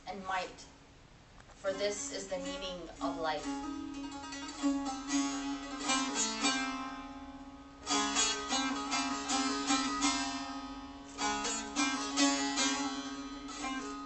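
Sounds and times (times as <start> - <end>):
plucked string melody: 1.7 - 14.0.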